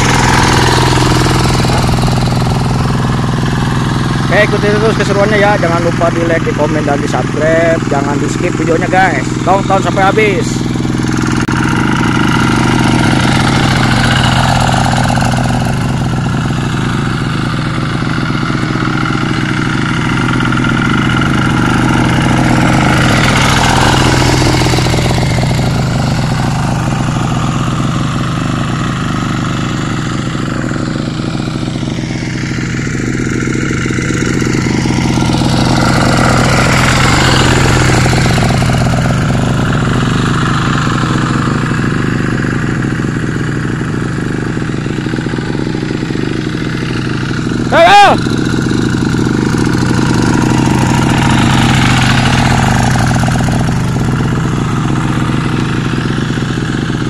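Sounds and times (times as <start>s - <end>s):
hand tractor diesel engine running: 0.0s - 57.0s.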